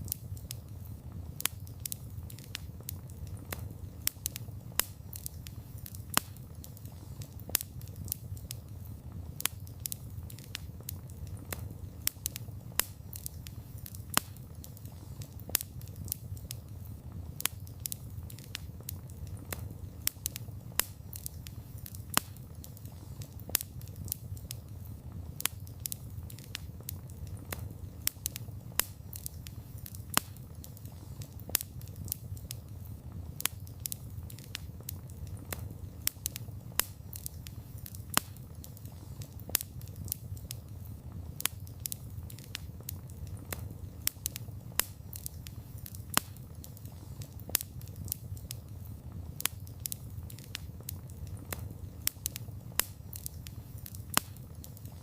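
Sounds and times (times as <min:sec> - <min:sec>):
campfire flame rumble: 0:00.0 - 0:55.0
fire crackles and pops: 0:00.0 - 0:55.0.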